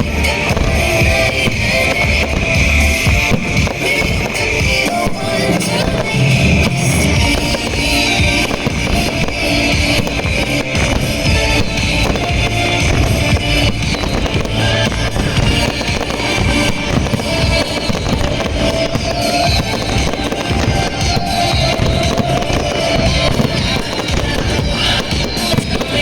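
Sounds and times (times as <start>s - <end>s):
fireworks bangs and crackles: 0.0s - 26.0s
loud music with drums and guitar: 0.0s - 26.0s.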